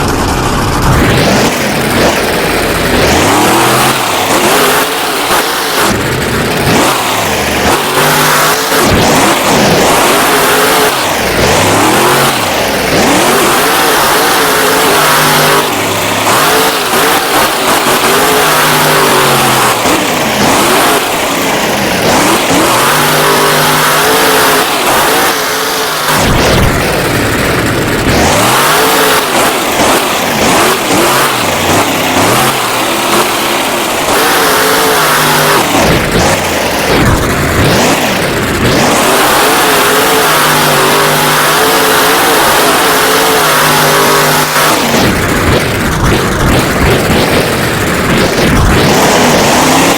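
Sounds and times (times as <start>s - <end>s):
truck engine revving hard: 0.0s - 49.9s.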